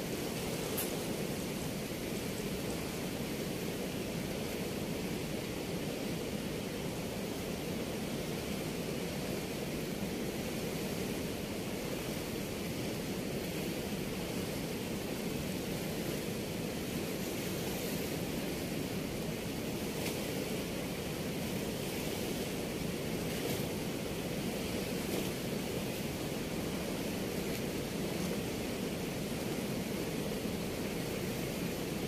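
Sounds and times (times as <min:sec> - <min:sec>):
river rushing through weir: 0:00.0 - 0:32.0.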